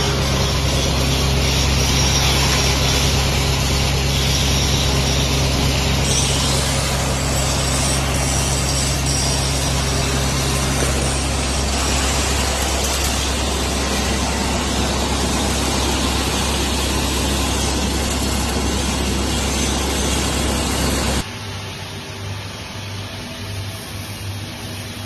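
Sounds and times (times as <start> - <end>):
material grinding: 0.0 - 21.2
crusher machine running: 0.0 - 25.0.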